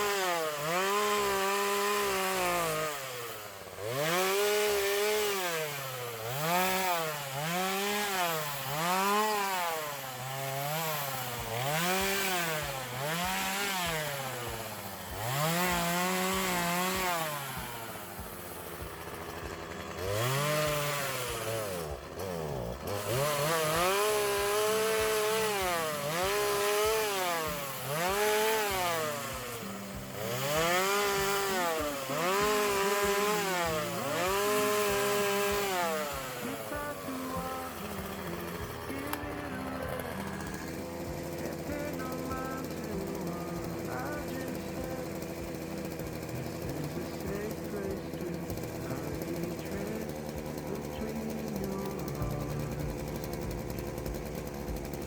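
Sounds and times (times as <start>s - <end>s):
power tool engine revving: 0.0s - 55.0s.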